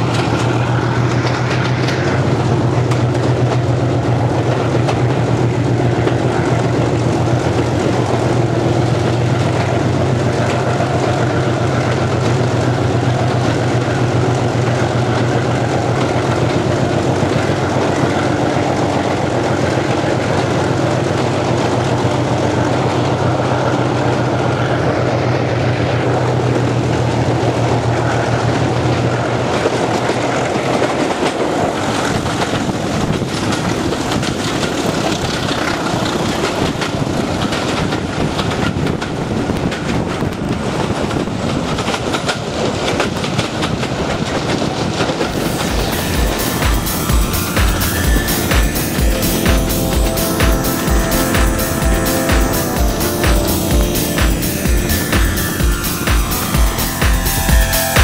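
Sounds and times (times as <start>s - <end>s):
locomotive engine drone: 0.0s - 58.0s
train wheels clickety-clack on rails: 0.0s - 58.0s.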